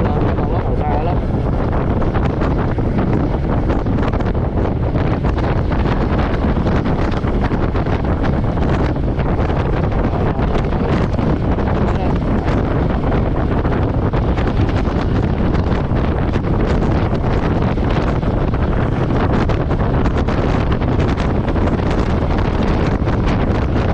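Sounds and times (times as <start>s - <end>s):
motorcycle engine running: 0.0s - 23.9s
wind buffeting microphone: 0.0s - 23.9s.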